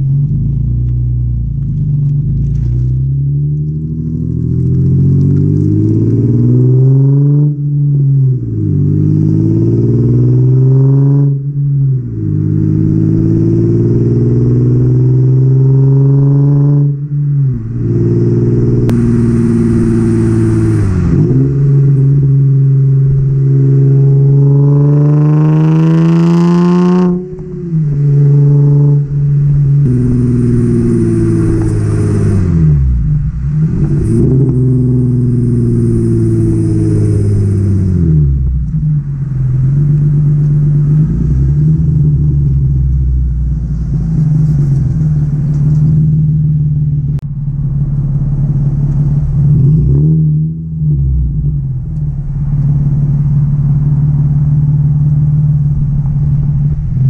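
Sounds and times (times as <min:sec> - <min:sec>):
car exhaust accelerating: 0:00.0 - 0:57.0.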